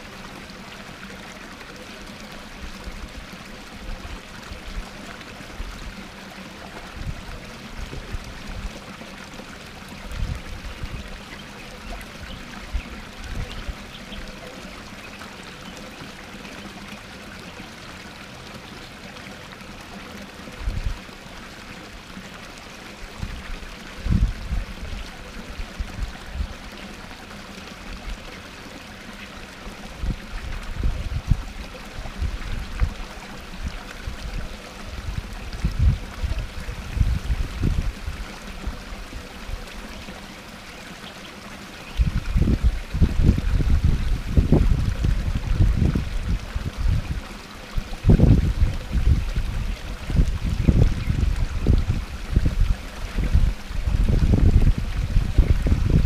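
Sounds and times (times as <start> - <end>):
water pouring into pond: 0.0 - 56.0.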